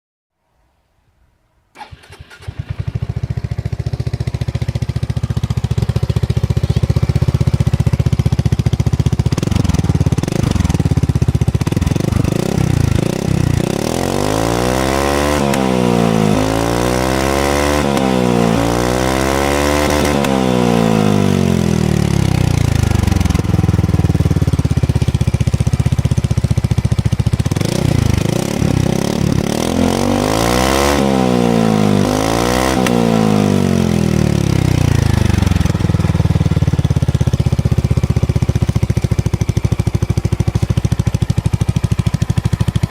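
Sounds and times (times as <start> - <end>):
scooter engine idling and revving: 1.8 - 42.9.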